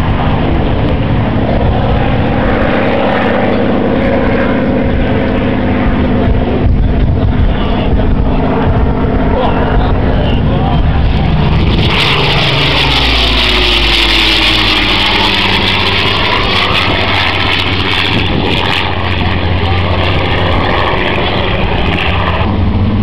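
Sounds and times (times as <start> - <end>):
propeller aircraft engine fly-by: 0.0 - 23.0.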